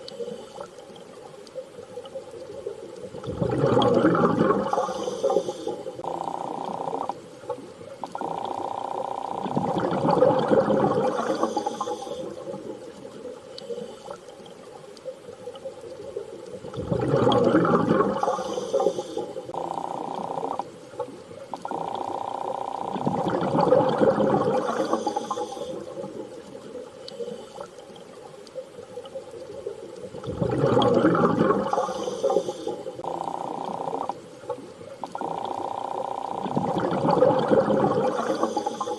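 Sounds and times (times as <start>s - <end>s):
rushing bubbling water swell: 2.0s - 38.9s.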